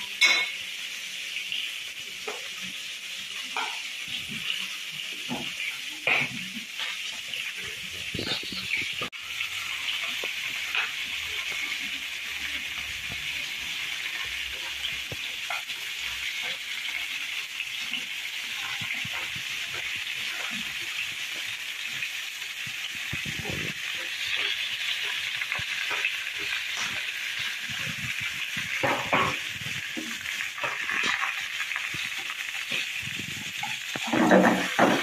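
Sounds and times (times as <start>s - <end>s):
vegetables sizzling in oil: 0.0s - 35.0s.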